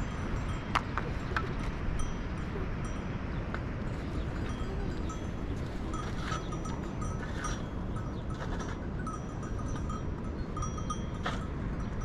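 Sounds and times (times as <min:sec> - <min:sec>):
sheep bells clinking: 0:00.0 - 0:12.0.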